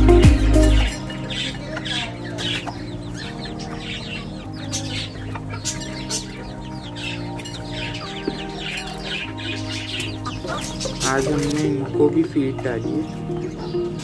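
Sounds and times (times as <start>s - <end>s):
chicks peeping: 0.0s - 14.0s
soft background music: 0.0s - 14.0s.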